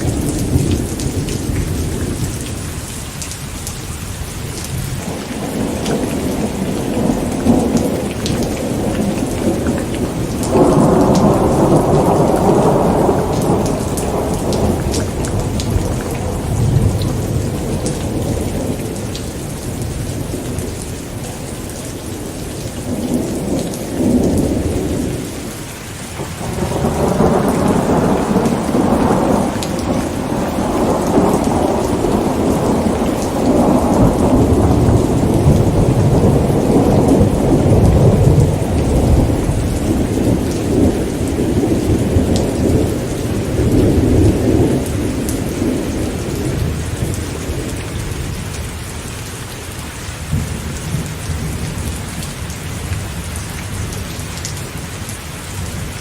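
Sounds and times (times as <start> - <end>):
rolling thunder: 0.0 - 2.8, 4.6 - 25.6, 26.2 - 48.7, 50.2 - 53.1
steady rain: 0.0 - 56.0.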